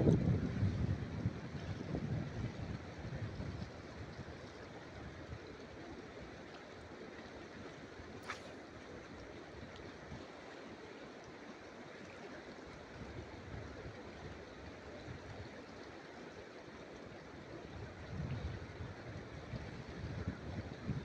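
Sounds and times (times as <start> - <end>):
river rushing over shallow water: 0.0 - 21.0.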